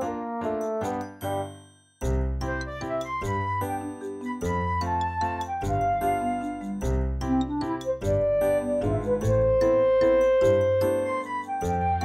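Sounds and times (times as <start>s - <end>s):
light bright background music: 0.0s - 12.0s.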